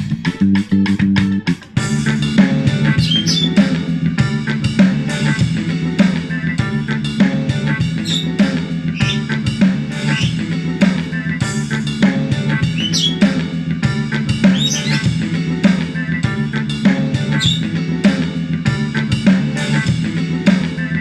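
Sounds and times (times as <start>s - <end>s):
drum-heavy music through speaker: 0.0s - 21.0s.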